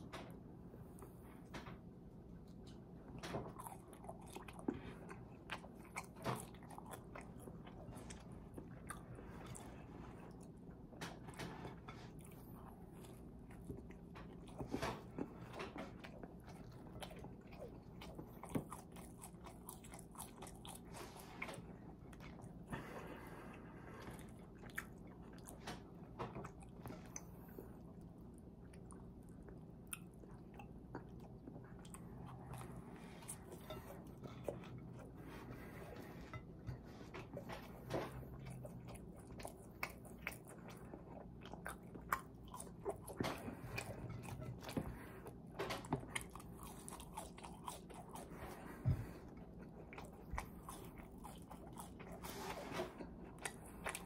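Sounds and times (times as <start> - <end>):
chewing and crunching food: 0.0 - 54.0.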